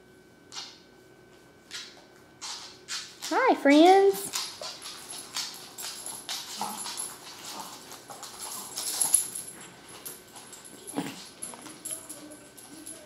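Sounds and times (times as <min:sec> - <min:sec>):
dog claws clicking on wooden floor: 0:01.7 - 0:13.0.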